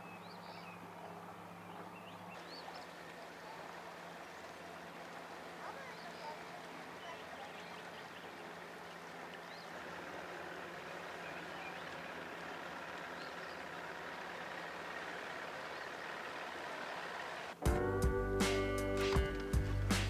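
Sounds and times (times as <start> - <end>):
motorboat engines: 0.0 - 20.0
water noise: 0.0 - 20.0.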